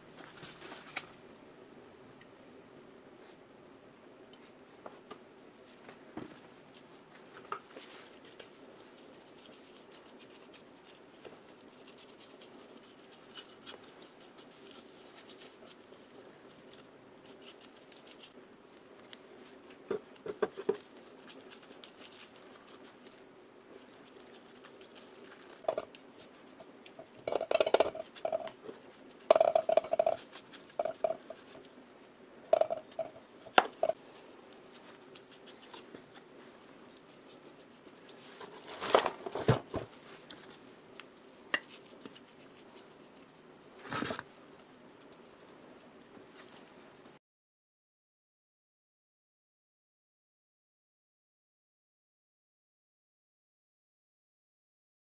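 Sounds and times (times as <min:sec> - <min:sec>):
faint steady hum: 0:00.0 - 0:47.2.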